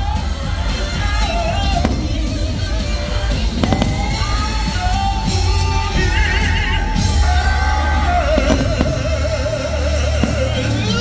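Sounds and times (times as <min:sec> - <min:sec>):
heavy bass: 0:00.0 - 0:11.0.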